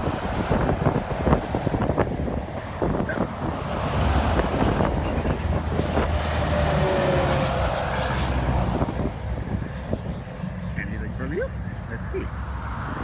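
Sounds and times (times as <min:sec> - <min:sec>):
truck diesel engine passing: 0:00.0 - 0:13.0
tyre and road noise: 0:00.0 - 0:13.0
wind buffeting microphone: 0:00.0 - 0:13.0.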